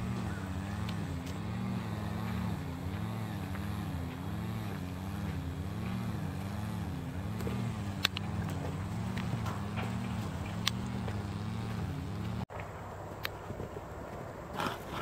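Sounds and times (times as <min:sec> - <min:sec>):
engine running with wavering pitch: 0:00.0 - 0:12.5.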